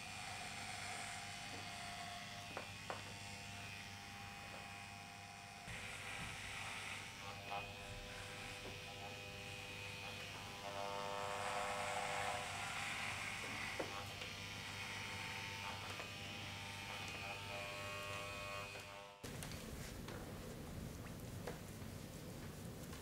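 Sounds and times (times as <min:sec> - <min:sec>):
electric hair clippers buzzing: 0:00.0 - 0:19.2.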